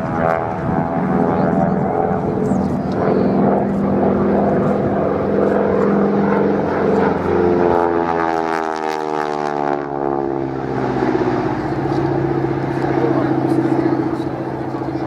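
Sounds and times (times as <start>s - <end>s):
aircraft engines in flight: 0.0s - 15.0s.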